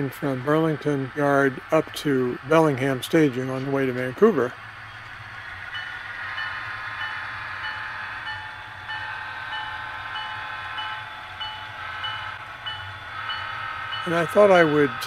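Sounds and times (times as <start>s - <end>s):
model train humming: 0.0s - 15.0s.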